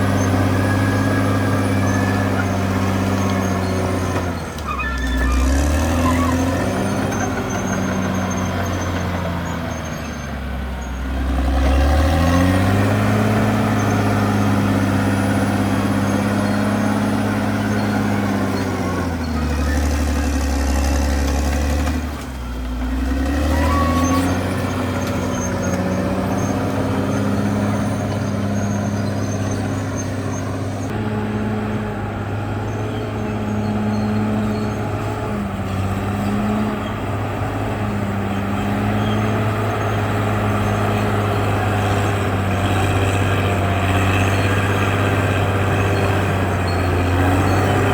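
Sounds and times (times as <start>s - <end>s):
bulldozer diesel engine under load: 0.0s - 47.9s.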